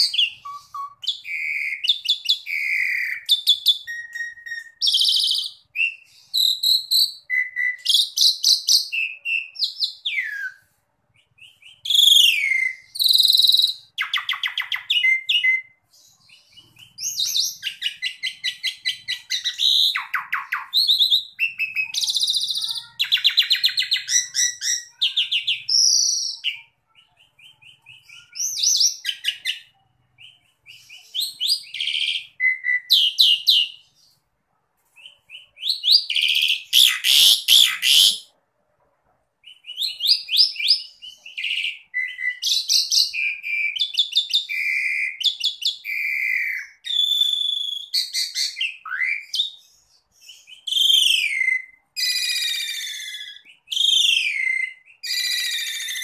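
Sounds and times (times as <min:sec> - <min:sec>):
starling singing: 0:00.0 - 0:34.2, 0:35.0 - 0:38.3, 0:39.4 - 0:56.0.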